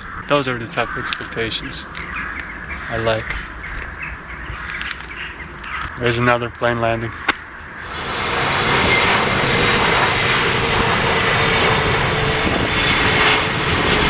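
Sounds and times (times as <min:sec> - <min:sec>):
airplane engine roar: 0:00.0 - 0:14.0
faint engine whine: 0:00.0 - 0:14.0.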